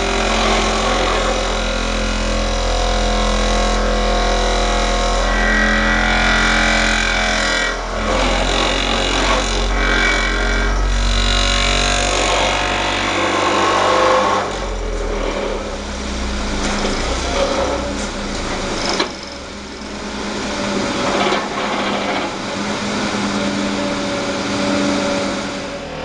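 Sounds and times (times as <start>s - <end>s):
vibratory hammer buzzing: 0.0s - 24.0s
excavator engine: 0.0s - 26.0s.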